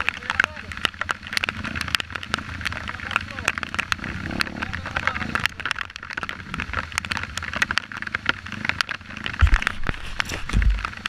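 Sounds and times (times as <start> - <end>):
crackle of sharp clicks: 0.0 - 11.0
dirt bike engines running: 0.0 - 11.0.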